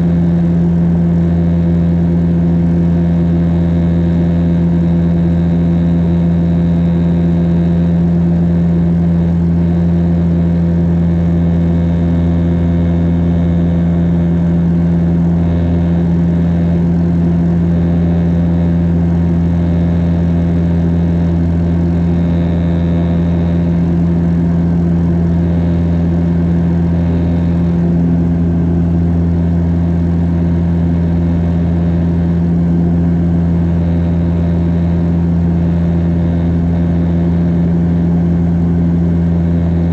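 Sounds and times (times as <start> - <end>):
turboprop cabin drone: 0.0 - 39.9.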